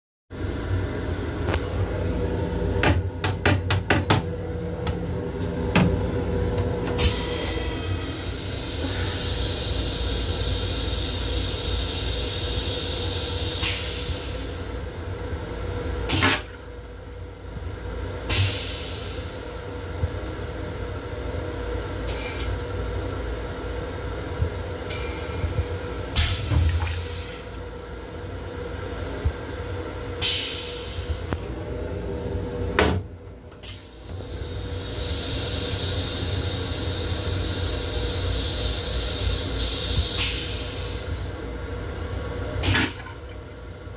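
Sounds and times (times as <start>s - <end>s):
toilet flushing water and air: 0.4s - 28.4s, 29.0s - 43.9s
train rumble: 0.4s - 43.9s.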